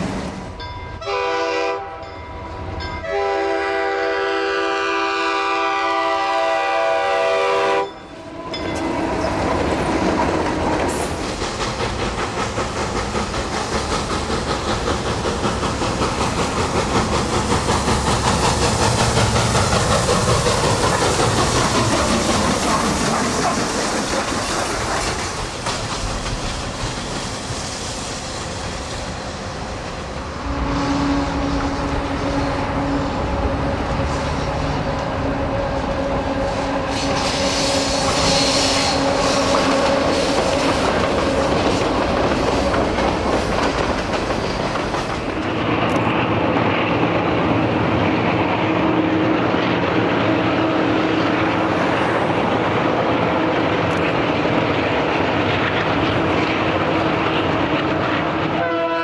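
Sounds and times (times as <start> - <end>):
diesel locomotive engines: 0.0 - 59.0
train cars rolling: 0.0 - 59.0.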